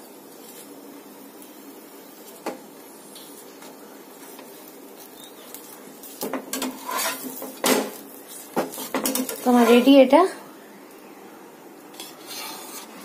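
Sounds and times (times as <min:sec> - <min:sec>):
flatbread frying hiss: 0:00.0 - 0:13.0.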